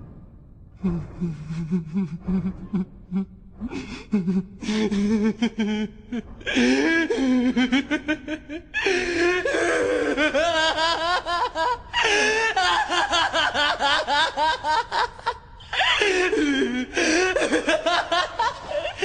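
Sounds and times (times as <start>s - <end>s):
person laughing hard: 1.5s - 19.0s.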